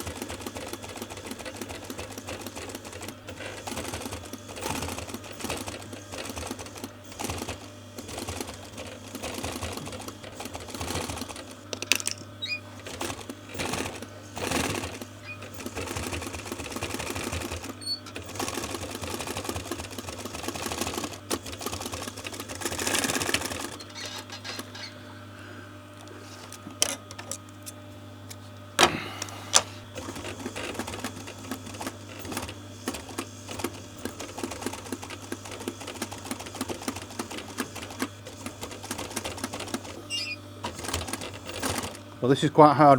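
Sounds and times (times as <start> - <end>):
sewing machine stitching: 0.0 - 25.1, 29.9 - 42.9.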